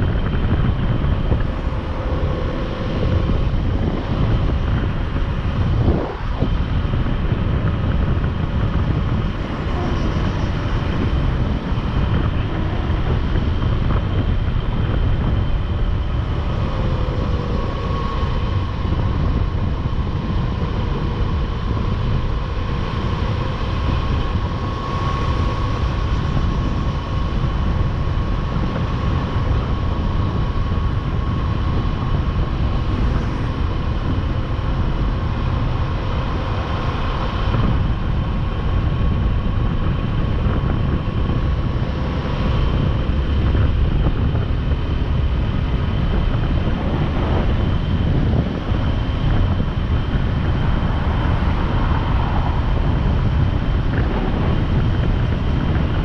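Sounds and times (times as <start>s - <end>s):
motorcycle engine at speed: 0.0s - 56.0s
wind rushing over microphone: 0.0s - 56.0s.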